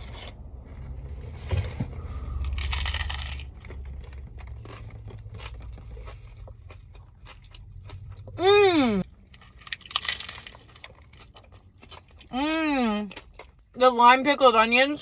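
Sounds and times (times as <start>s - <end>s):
crunchy taco chewing: 0.0s - 14.0s.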